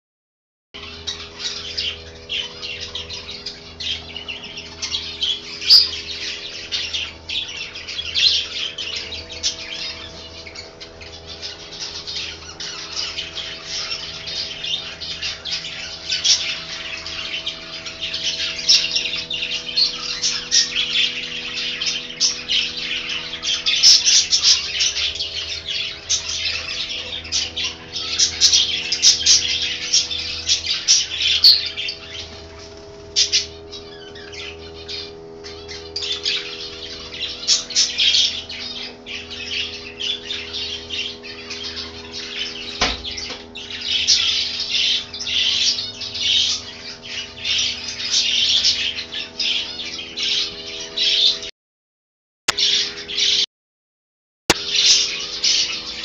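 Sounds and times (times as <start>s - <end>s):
finches chirping and calling: 0.8s - 51.5s, 52.5s - 53.4s, 54.5s - 56.0s
steady low hum: 0.8s - 51.5s, 54.5s - 56.0s.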